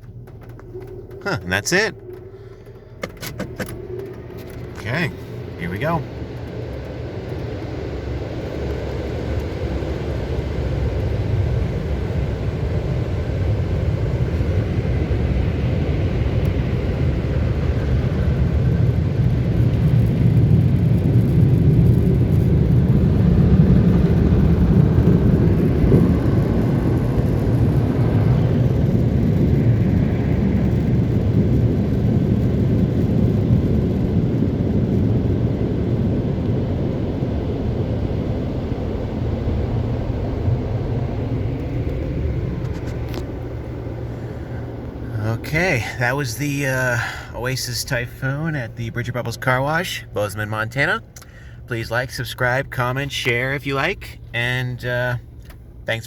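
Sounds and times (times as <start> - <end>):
dryer blowers rushing air: 0.0 - 54.3.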